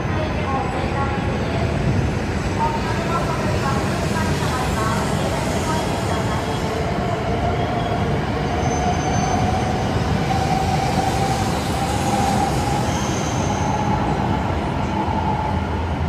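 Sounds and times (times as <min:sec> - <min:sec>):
train humming: 0:00.0 - 0:16.0.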